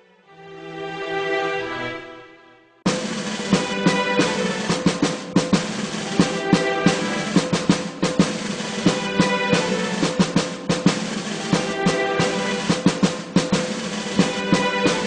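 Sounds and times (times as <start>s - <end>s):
drum hits: 2.9s - 15.0s.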